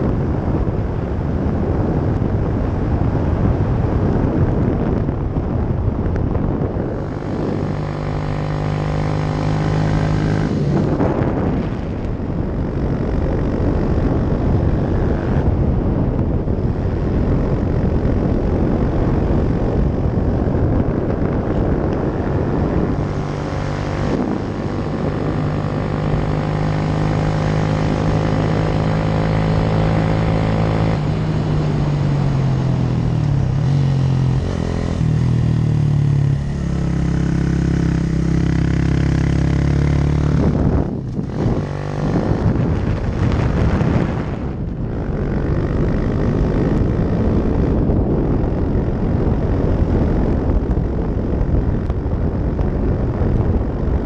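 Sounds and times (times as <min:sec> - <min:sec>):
motorcycle engine pulling uphill: 0:00.0 - 0:54.0
wind noise: 0:00.0 - 0:54.0.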